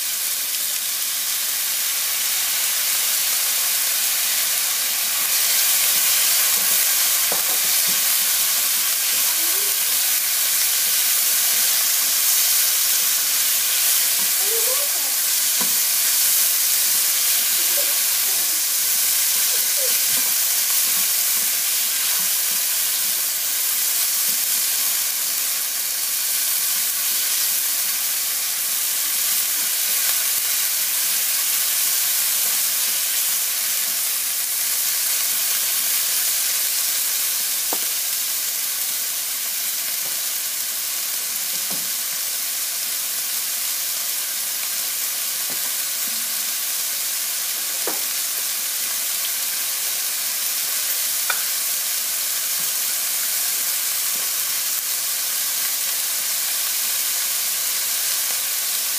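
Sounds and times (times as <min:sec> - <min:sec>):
food sizzling in hot oil: 0:00.0 - 0:58.9.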